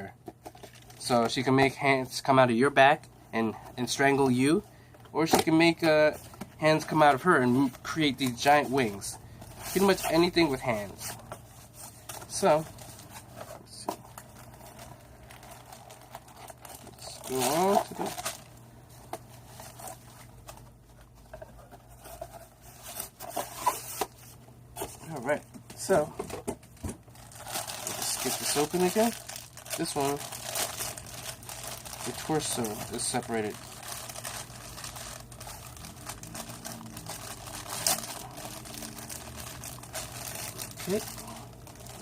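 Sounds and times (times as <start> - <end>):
packaging crinkling and rustling: 0.2 - 1.4, 5.2 - 42.0.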